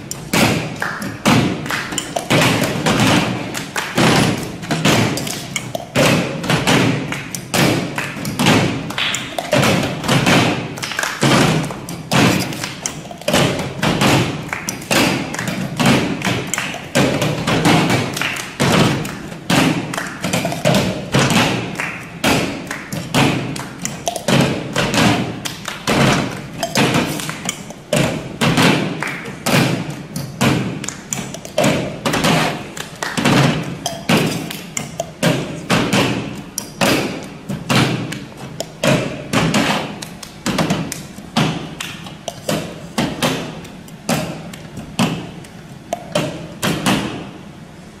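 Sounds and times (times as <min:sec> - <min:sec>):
hand claps: 0:00.0 - 0:47.3
cups thumped on a tabletop: 0:00.3 - 0:43.5, 0:46.0 - 0:47.2.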